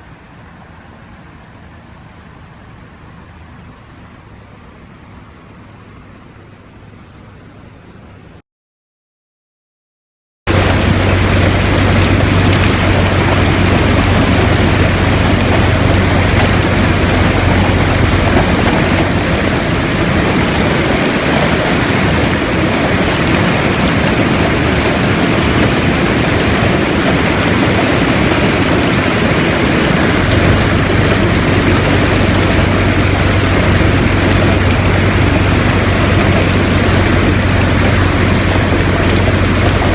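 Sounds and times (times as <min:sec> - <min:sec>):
river rushing: 0:00.0 - 0:05.7, 0:10.5 - 0:39.9.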